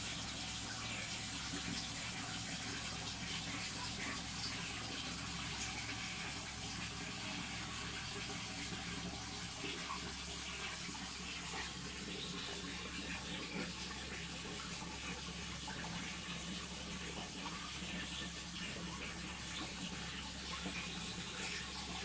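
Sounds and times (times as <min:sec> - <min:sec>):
aquarium filter water splashing: 0:00.0 - 0:22.0.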